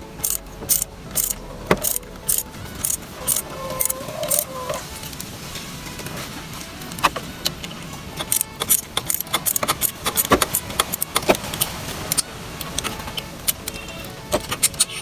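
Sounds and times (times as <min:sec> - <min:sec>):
metallic clicking of tools: 0:00.2 - 0:04.4, 0:07.0 - 0:15.0.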